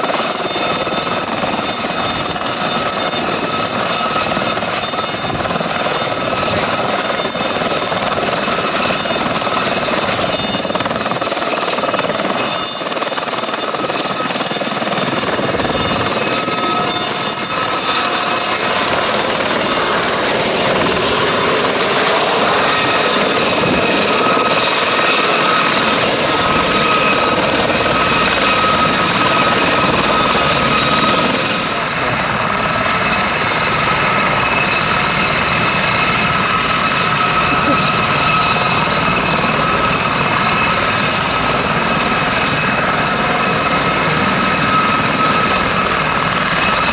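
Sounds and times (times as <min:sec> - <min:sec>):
helicopter rotor noise: 0:00.0 - 0:46.9
high-pitched turbine whine: 0:00.0 - 0:46.9.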